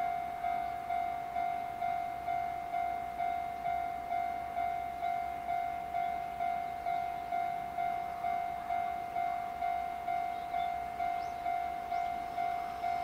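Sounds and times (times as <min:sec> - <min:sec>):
level-crossing warning bell ringing: 0:00.0 - 0:13.0.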